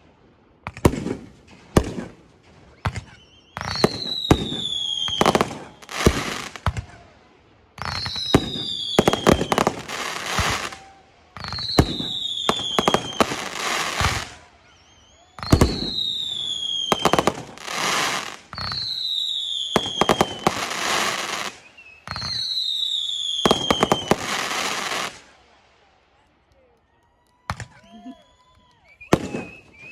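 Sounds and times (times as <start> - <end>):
fireworks bangs: 0.0 - 25.7, 28.8 - 29.9
fireworks crackling: 0.7 - 26.0, 28.8 - 29.9
fireworks falling whistle: 1.8 - 7.0, 7.8 - 25.2, 27.5 - 29.9.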